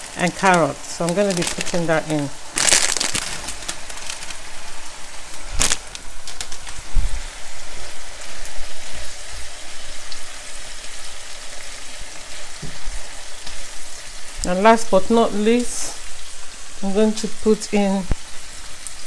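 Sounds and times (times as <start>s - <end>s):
sauce sizzling and bubbling: 0.0s - 19.0s.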